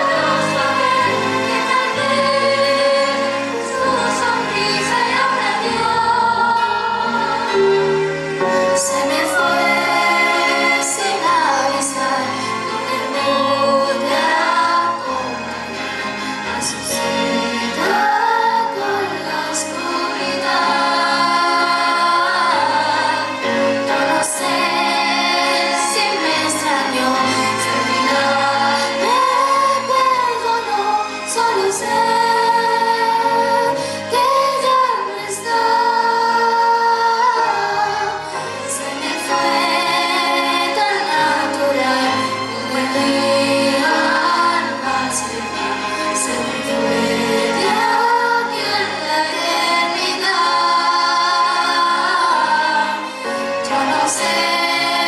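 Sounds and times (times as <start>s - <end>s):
children's choir singing: 0.0s - 55.0s
instrumental accompaniment: 0.0s - 55.0s.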